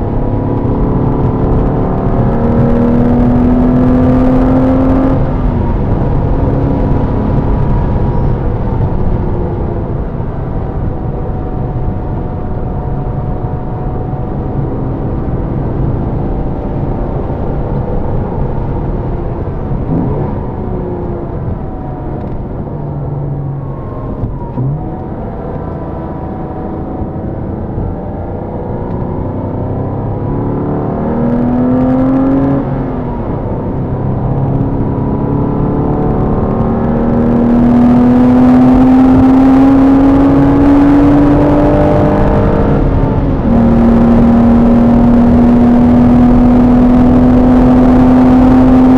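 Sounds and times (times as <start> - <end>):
car engine revving: 0.0 - 48.9
road and tyre noise: 0.0 - 48.9.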